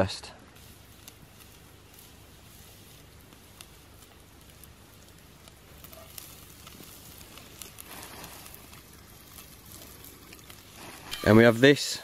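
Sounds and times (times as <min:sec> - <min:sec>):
bacon sizzling in a skillet: 0:00.5 - 0:12.0.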